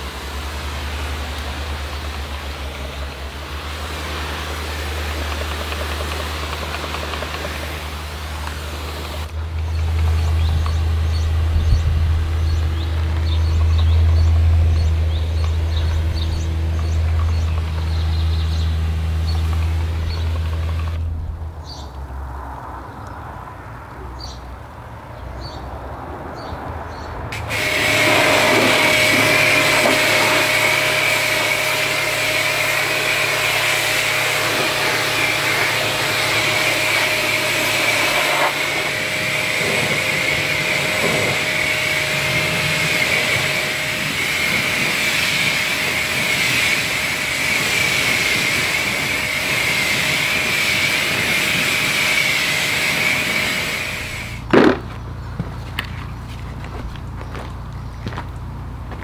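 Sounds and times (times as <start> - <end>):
pressure washer spraying water: 0.0 - 21.0, 27.3 - 54.8.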